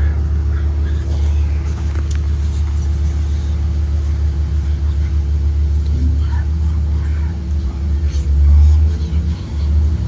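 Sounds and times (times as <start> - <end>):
bus engine and road rumble: 0.0 - 10.0
constant hum: 0.0 - 10.0.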